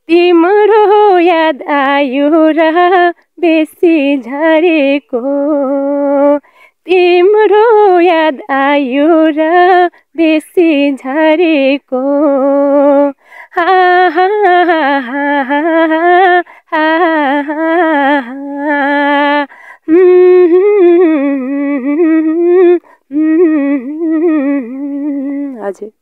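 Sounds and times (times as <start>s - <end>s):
woman singing unaccompanied: 0.0s - 26.0s.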